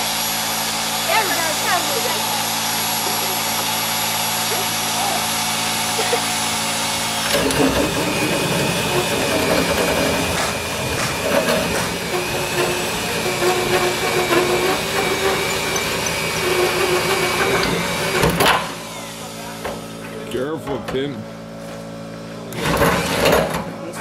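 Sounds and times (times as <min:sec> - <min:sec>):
power tool whining: 0:00.0 - 0:20.2.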